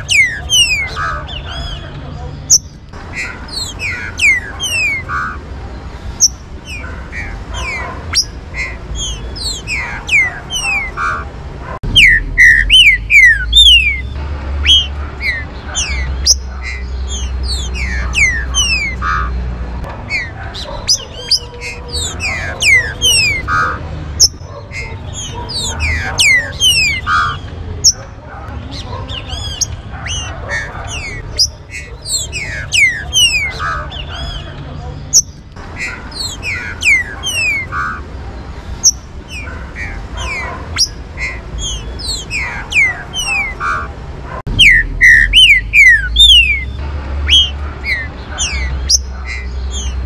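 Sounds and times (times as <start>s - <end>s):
birds whistling and chirping: 0.0s - 50.0s.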